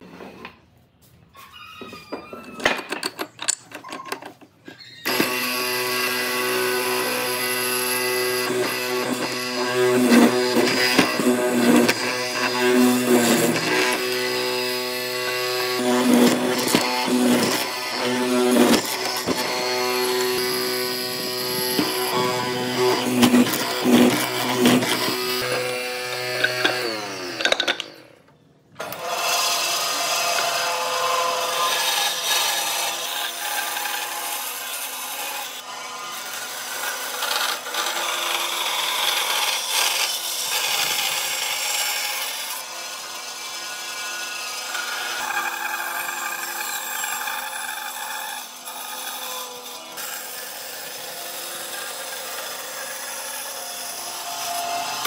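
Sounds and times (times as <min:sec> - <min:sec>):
bandsaw rasping through wood: 0:05.0 - 0:28.1, 0:28.8 - 0:55.0.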